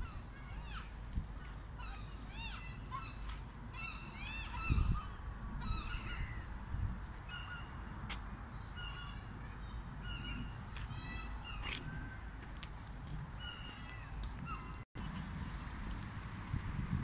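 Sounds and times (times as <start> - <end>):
water birds calling: 0.0 - 16.3.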